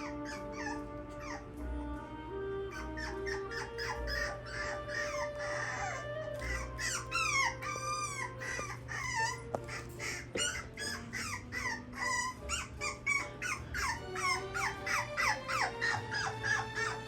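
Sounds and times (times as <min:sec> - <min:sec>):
puppy whining and yelping: 0:00.0 - 0:01.6, 0:02.7 - 0:17.0.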